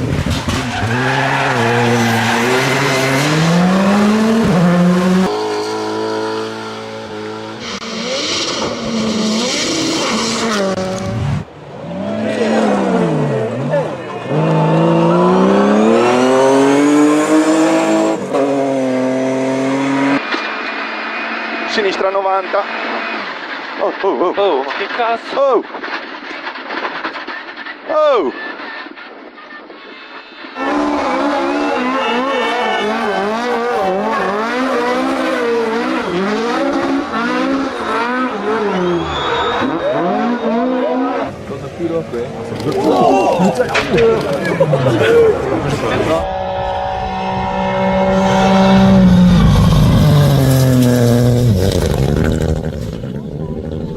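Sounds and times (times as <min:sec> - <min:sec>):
rally car engine accelerating: 0:00.0 - 0:24.2, 0:30.6 - 0:53.9.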